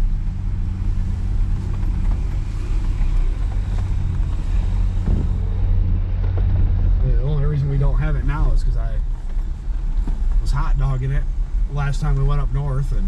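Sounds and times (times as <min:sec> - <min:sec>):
off-road vehicle engine droning: 0:00.0 - 0:13.0
rumble over terrain: 0:00.0 - 0:13.0.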